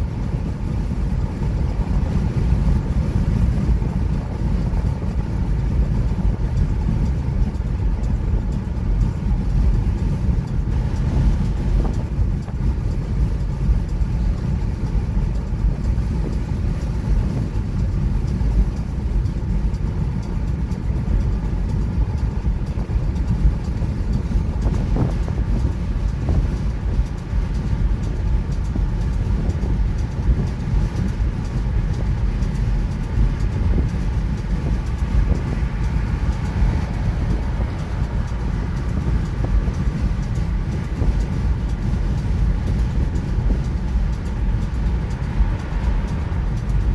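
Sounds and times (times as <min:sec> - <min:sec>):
car road noise rumble: 0:00.0 - 0:46.9.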